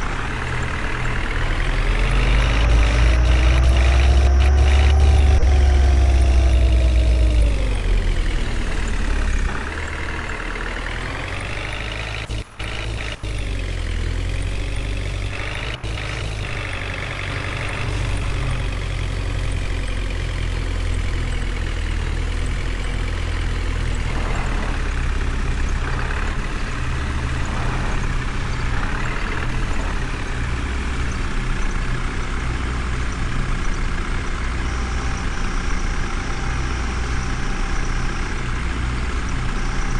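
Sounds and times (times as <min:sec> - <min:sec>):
heavy truck engine revving: 0:00.0 - 0:39.9.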